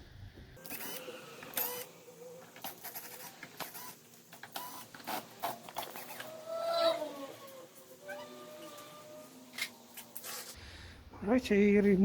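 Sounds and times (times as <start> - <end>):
screwdriver whirring: 0.6 - 10.6.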